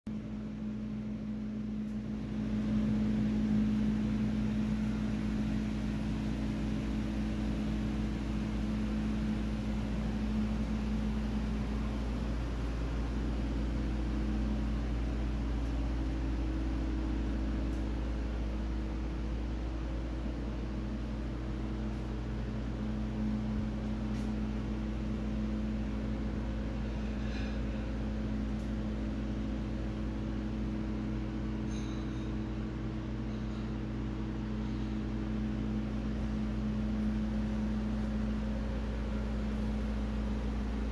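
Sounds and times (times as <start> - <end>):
low mechanical hum: 0.1 - 40.9.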